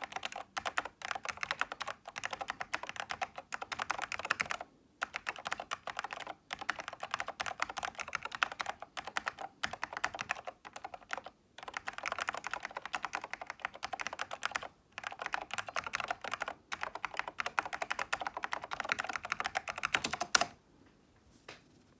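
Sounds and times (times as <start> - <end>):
fast keyboard typing: 0.0 - 20.6.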